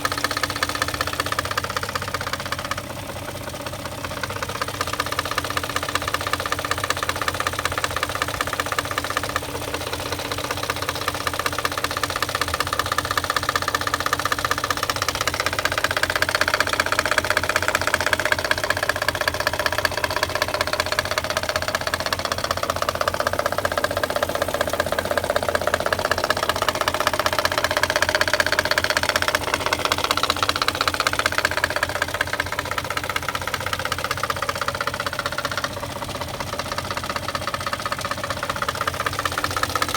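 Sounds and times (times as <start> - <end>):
car engine running: 0.0 - 39.9
fast regular engine knock: 0.0 - 39.9.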